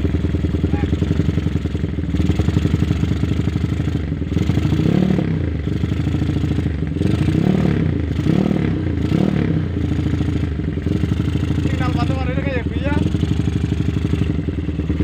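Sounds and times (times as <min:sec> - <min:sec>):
motorcycle engine idling: 0:00.0 - 0:15.0
motorcycle engine revving: 0:00.0 - 0:15.0.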